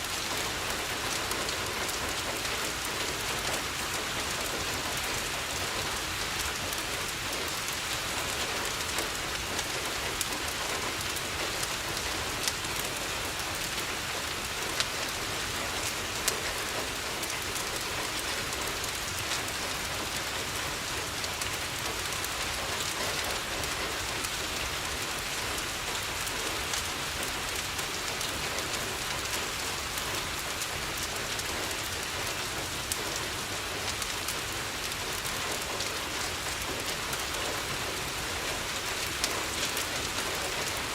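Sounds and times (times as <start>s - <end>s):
rain pattering on a window: 0.0s - 40.9s.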